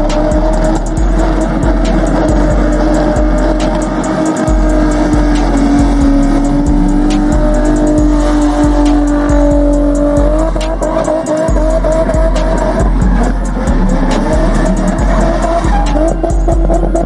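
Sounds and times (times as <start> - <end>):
car engine at high revs: 0.0 - 17.0
music with heavy bass beat: 0.0 - 17.0
tyres squealing: 0.0 - 17.0.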